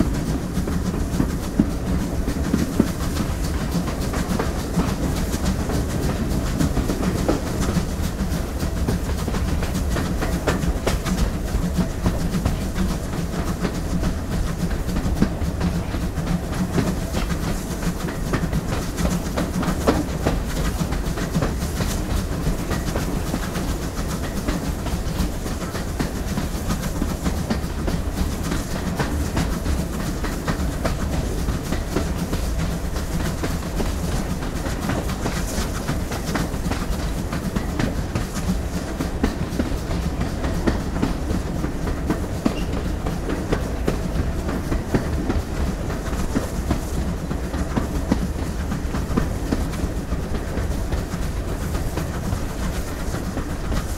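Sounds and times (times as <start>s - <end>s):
steam locomotive rumbling: 0.0s - 53.9s
wheels clicking on track: 0.0s - 53.9s.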